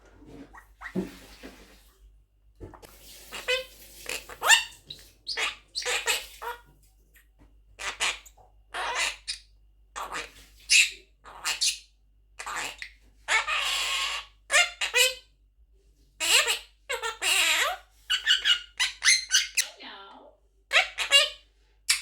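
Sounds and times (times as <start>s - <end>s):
parrot calls and chatter: 2.7s - 15.3s, 16.2s - 22.0s.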